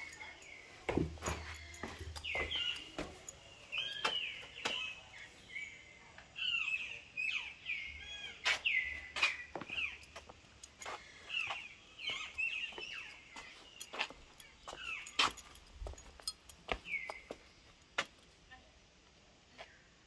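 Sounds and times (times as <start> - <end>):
birds chirping: 0.0 - 18.3.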